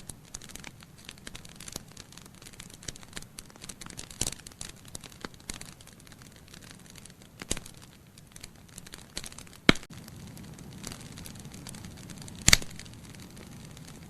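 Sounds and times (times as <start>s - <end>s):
logs crackling in fireplace: 0.0s - 14.0s
sharp fire pops: 0.0s - 14.0s.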